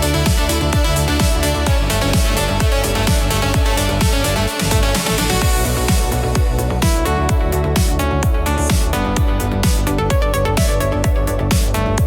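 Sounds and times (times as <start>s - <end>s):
held synth chords: 0.0s - 12.0s
kick drum beating: 0.0s - 12.0s.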